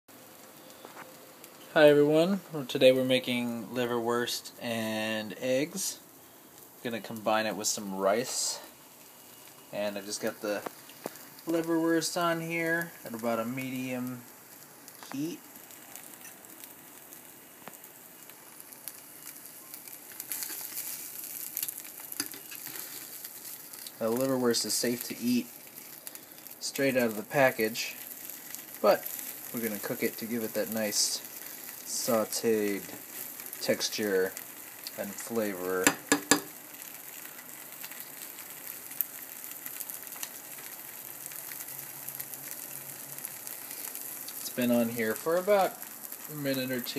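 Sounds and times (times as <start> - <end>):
meat sizzling in a frying pan: 0.1 - 46.9.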